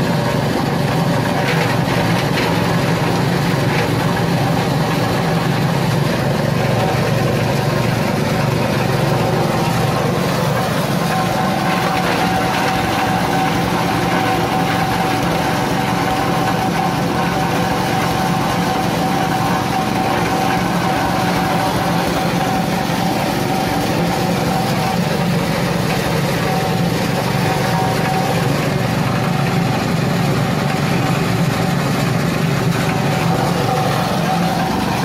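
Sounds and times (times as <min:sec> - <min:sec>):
shredder whine: 0:00.0 - 0:35.0
small petrol engine running: 0:00.0 - 0:35.0.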